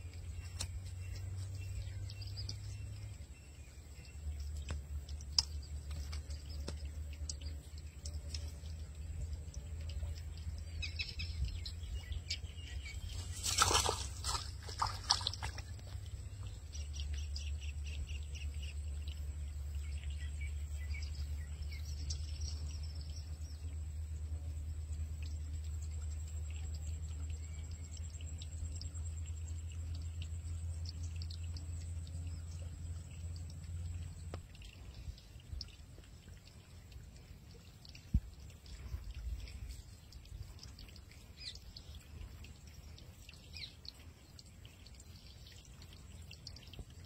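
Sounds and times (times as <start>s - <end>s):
birds chirping: 0.0s - 24.0s, 25.2s - 47.0s
steady low rumble: 0.0s - 47.0s.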